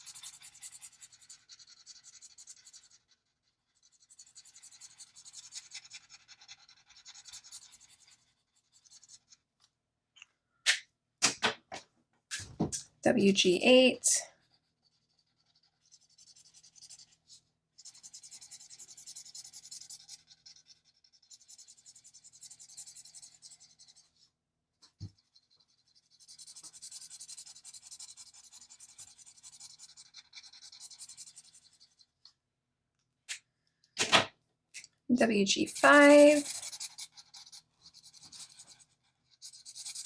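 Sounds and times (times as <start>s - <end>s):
marker shading on paper: 0.0s - 9.5s, 12.4s - 32.4s, 35.1s - 40.0s.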